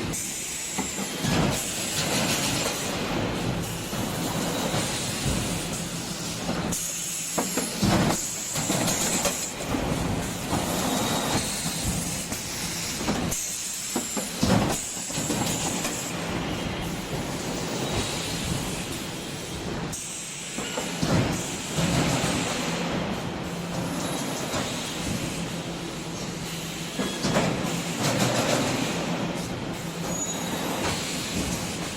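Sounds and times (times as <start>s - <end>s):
factory machinery clattering: 0.0s - 31.9s.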